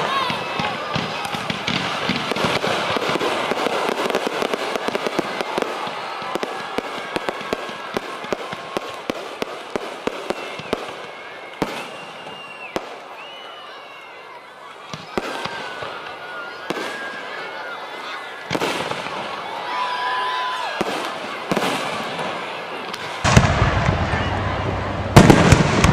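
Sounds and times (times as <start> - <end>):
fireworks whistling: 0.0 - 14.0, 14.9 - 17.6, 20.4 - 25.9
fireworks crackling: 0.0 - 25.9.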